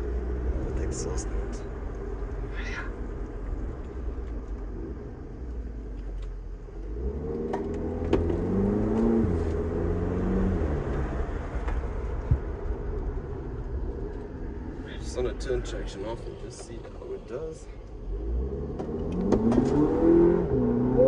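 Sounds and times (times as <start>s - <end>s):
car engine revving: 0.0s - 21.0s
road noise hum: 0.0s - 21.0s.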